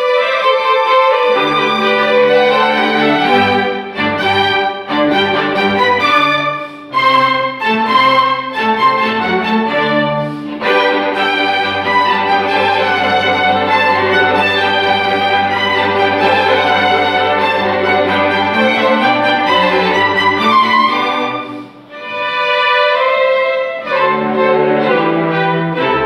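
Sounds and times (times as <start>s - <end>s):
string ensemble playing: 0.0s - 26.0s.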